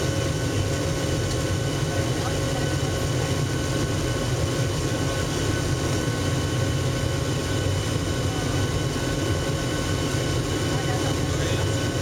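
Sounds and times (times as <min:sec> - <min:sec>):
jet cabin rumble with whine: 0:00.0 - 0:12.0.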